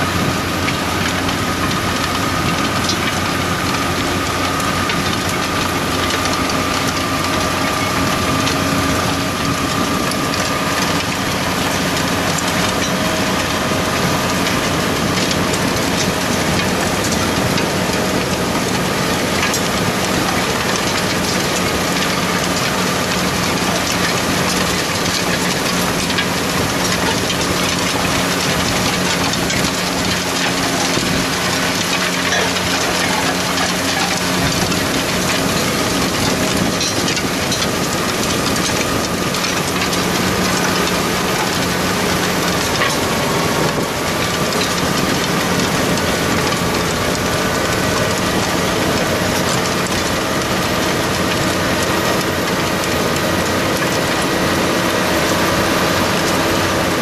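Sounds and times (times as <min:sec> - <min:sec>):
seed drill clattering: 0:00.0 - 0:57.0
tractor engine running: 0:00.0 - 0:57.0.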